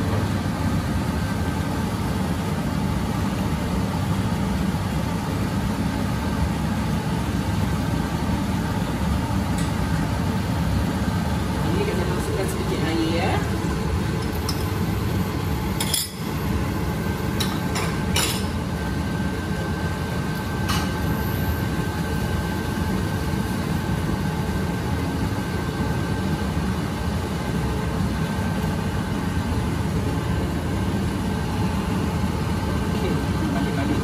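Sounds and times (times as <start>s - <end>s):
low rumble of wok cooking: 0.0s - 34.0s.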